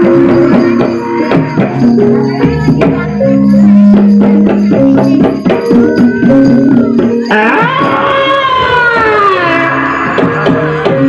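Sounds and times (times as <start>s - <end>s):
sharp percussion strokes: 0.0s - 11.0s.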